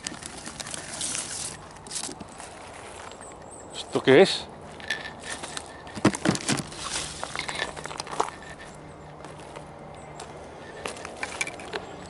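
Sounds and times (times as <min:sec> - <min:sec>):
footsteps on dry dirt: 0:00.0 - 0:03.4, 0:04.4 - 0:12.0.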